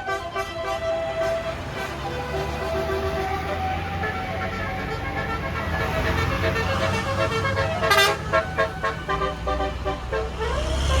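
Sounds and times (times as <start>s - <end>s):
bus engine rumble: 0.0s - 11.0s
bus horn playing a melody: 0.0s - 11.0s.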